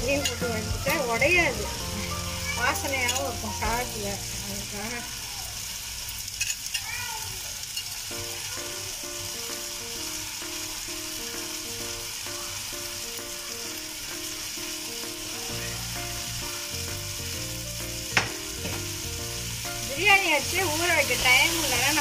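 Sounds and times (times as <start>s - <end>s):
background music melody: 0.0s - 4.9s, 8.1s - 22.0s
rice sizzling in pan: 0.0s - 22.0s.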